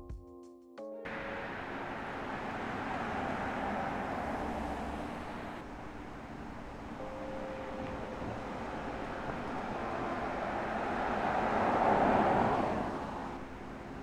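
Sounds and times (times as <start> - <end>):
car driving past: 1.1 - 14.0
tyre and road noise: 1.1 - 14.0.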